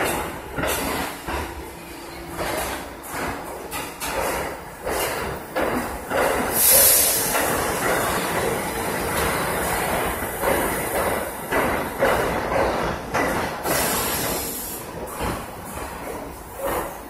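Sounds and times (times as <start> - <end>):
subway train wheels rumbling: 0.0 - 17.0
wheels clacking over rail joints: 2.2 - 17.0.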